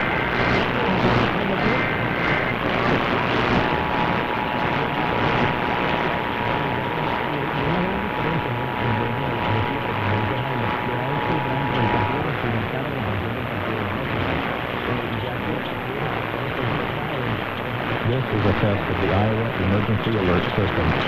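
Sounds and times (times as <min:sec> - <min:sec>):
radio hiss and static: 0:00.0 - 0:21.0.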